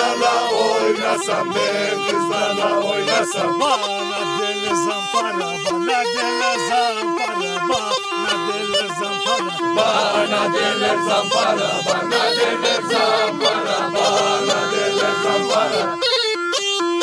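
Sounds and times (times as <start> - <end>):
men's voices: 0.0 - 16.0
bagpipe playing dance tune: 0.0 - 17.0.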